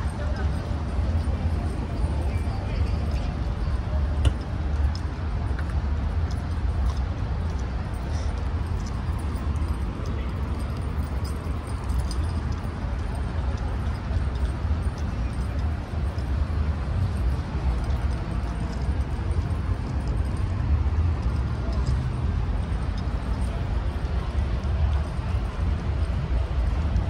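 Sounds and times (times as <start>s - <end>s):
steady low city rumble: 0.0s - 27.0s
small scattered clicks: 0.5s - 27.0s.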